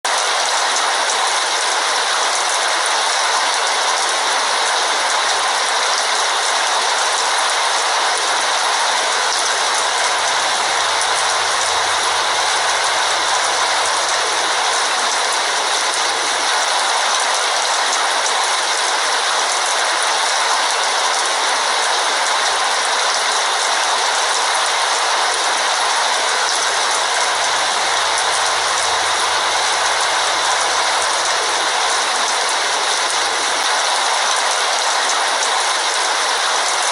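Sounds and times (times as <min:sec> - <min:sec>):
heavy rain falling: 0:00.1 - 0:36.9.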